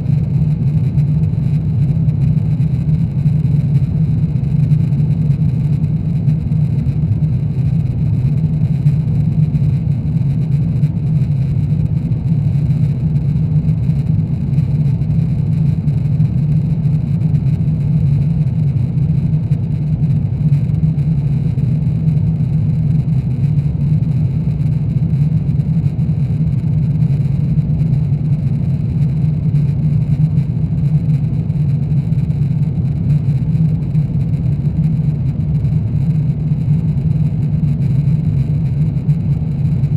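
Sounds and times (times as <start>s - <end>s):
aircraft engine and airflow roar: 0.0s - 39.9s
faint high whine: 0.0s - 39.9s.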